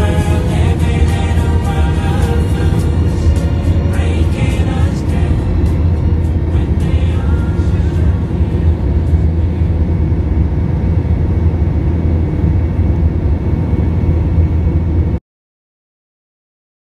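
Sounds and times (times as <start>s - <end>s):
airliner cabin rumble: 0.0s - 15.2s.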